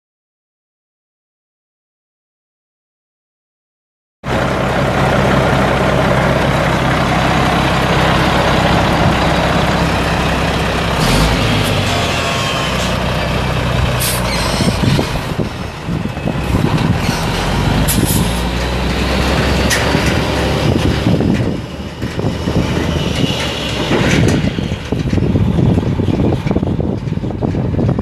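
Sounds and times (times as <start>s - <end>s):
diesel truck driving on gravel: 4.3s - 28.0s.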